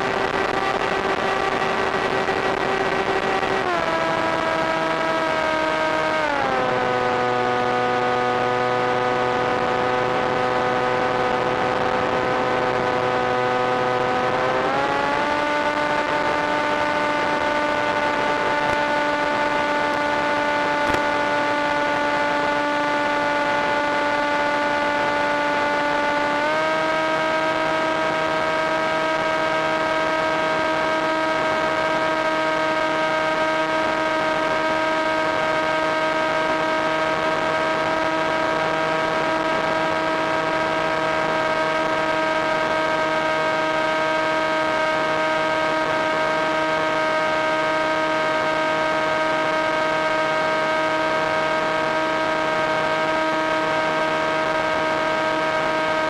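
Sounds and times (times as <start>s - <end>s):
electric motor and propeller hum: 0.0s - 56.0s.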